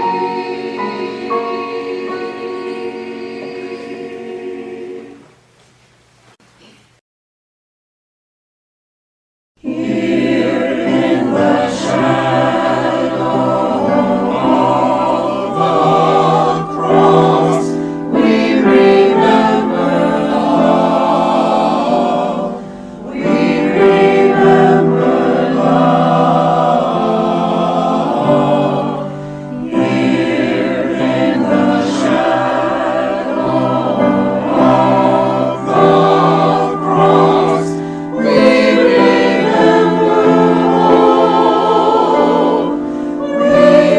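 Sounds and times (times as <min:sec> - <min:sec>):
choir singing: 0:00.0 - 0:05.4, 0:09.6 - 0:43.9.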